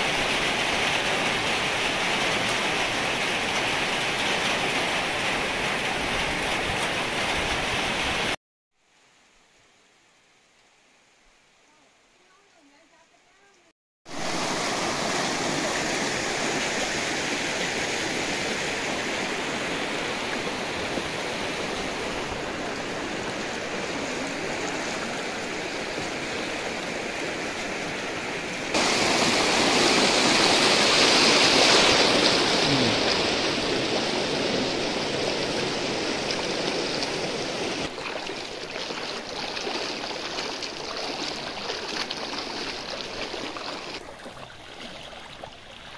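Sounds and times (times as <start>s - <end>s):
floodwater rushing over street: 0.0s - 8.4s, 13.4s - 45.9s.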